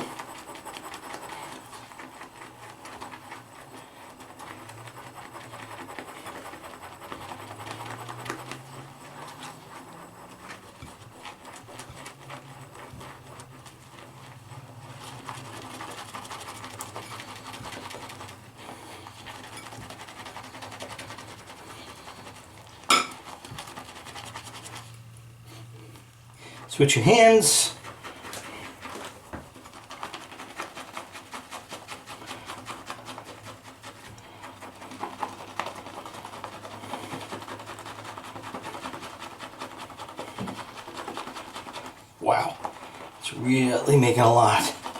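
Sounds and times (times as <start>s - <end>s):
shaving brush swishing in bowl: 0.0s - 44.9s.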